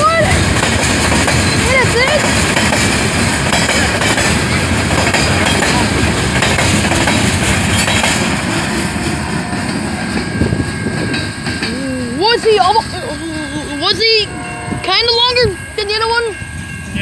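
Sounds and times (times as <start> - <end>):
train rumbling past: 0.0 - 17.0
wheels clattering on rail joints: 0.0 - 17.0.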